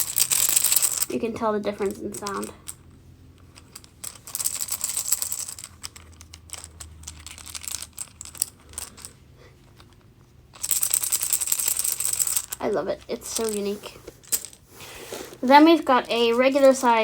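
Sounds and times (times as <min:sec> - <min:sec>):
wooden beads clacking: 0:00.0 - 0:17.0.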